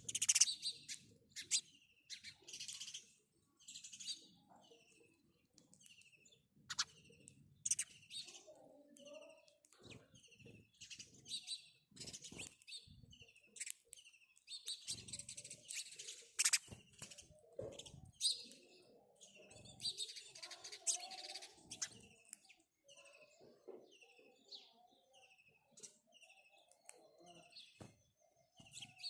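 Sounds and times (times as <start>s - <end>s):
sparrows chirping: 0.0s - 29.0s.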